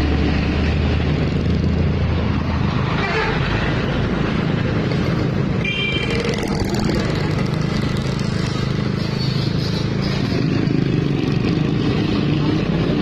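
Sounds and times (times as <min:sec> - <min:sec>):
motorcycles: 0:00.0 - 0:13.0
passing traffic: 0:00.0 - 0:13.0.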